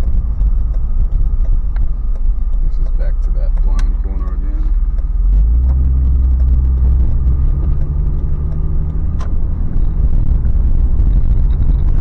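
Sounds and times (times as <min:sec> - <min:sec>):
car engine running: 0:00.0 - 0:12.0
low road rumble: 0:00.0 - 0:12.0.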